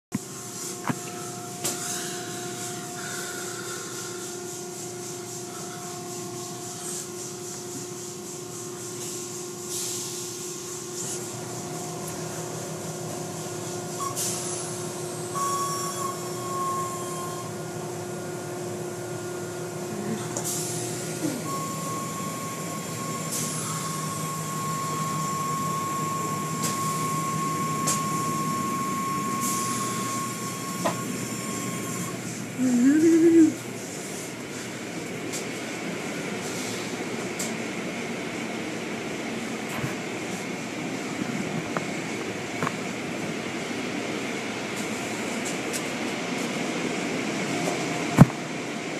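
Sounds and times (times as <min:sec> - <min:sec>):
car wash motor humming: 0:00.1 - 0:48.9.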